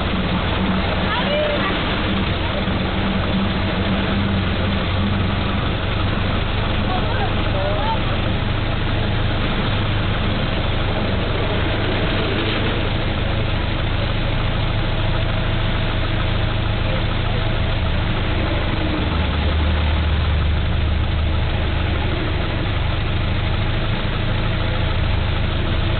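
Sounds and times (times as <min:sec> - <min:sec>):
old car engine running: 0:00.0 - 0:25.9.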